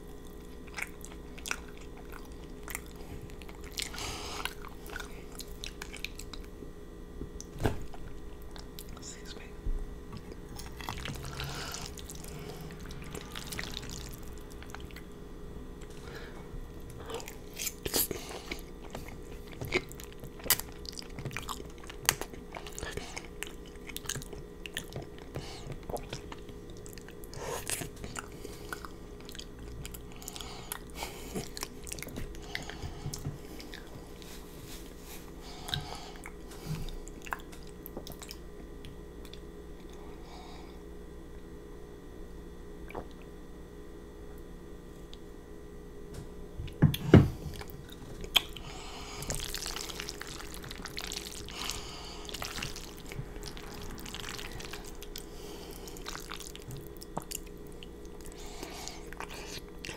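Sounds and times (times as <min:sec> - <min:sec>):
wet chewing and lip-smacking: 0:00.0 - 0:06.6, 0:07.4 - 0:09.5, 0:10.1 - 0:15.2, 0:16.8 - 0:40.0, 0:46.7 - 0:59.9
person drinking water: 0:00.3 - 0:06.5, 0:07.4 - 0:15.2, 0:15.8 - 0:38.4, 0:46.9 - 0:59.9.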